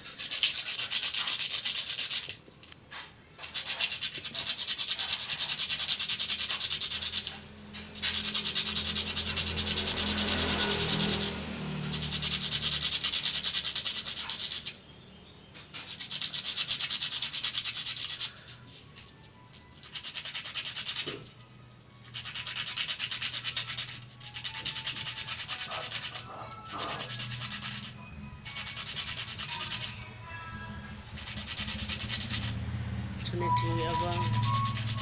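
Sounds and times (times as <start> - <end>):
metal scraping on sandpaper: 0.0 - 14.8, 15.6 - 35.0.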